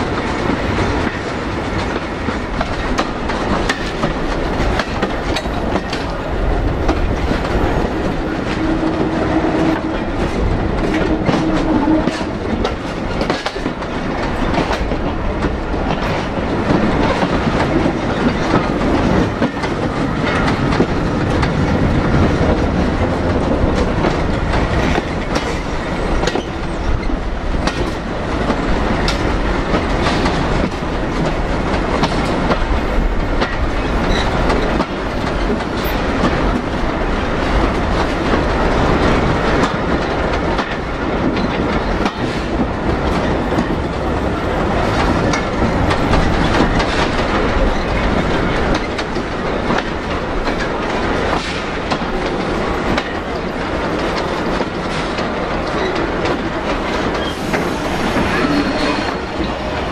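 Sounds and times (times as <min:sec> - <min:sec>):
rumble of running wagons: 0:00.0 - 0:59.9
train wheels clicking over rail joints: 0:00.0 - 0:59.9.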